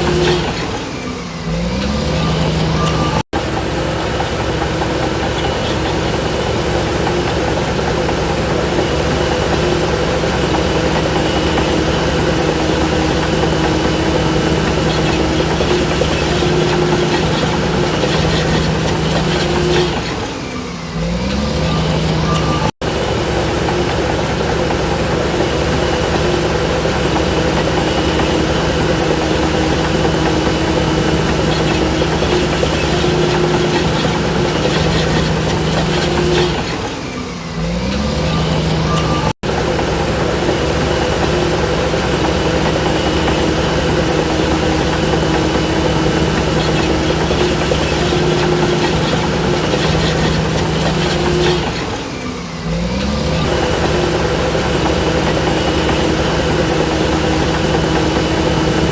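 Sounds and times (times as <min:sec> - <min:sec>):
diesel engine of heavy machinery: 0:00.0 - 0:58.9.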